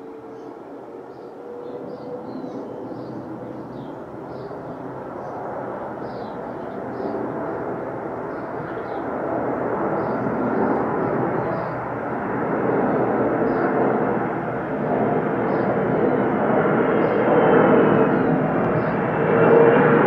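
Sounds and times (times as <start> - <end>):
faint jet engine whine: 0.0 - 20.0
jet airliner rushing overhead: 0.0 - 20.0.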